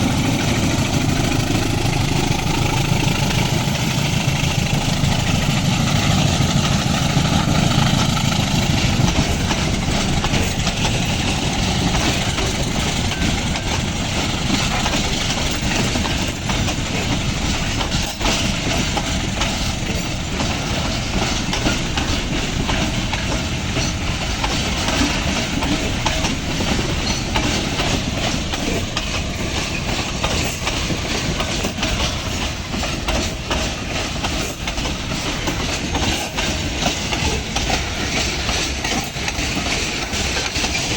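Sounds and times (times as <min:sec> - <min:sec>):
diesel locomotive engine: 0:00.0 - 0:40.9
freight wagons rumbling: 0:00.0 - 0:40.9
wheels clattering over rails: 0:00.0 - 0:40.9.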